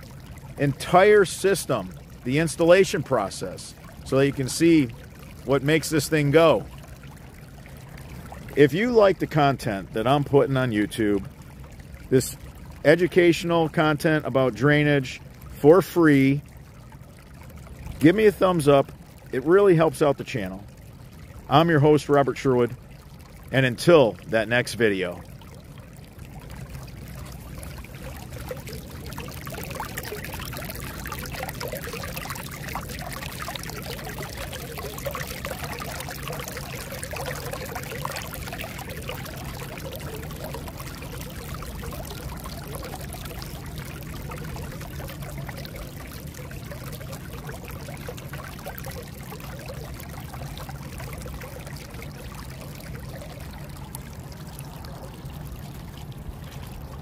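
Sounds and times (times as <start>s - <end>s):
water gurgling and trickling: 0.0s - 57.0s.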